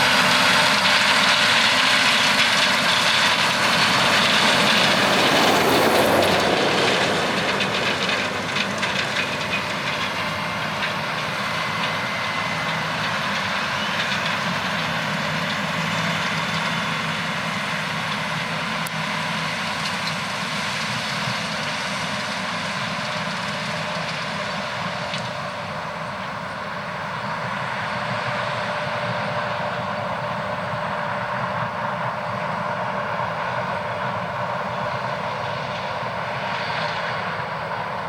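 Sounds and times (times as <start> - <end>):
combine harvester drone: 0.0 - 38.0.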